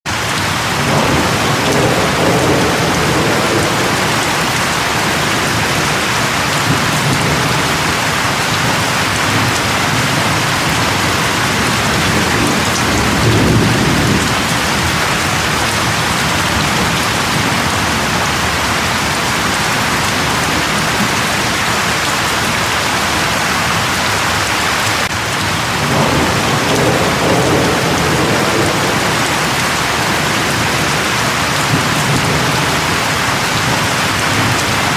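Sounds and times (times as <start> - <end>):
heavy rain falling: 0.0 - 34.9
thunder rumbling: 0.2 - 34.9.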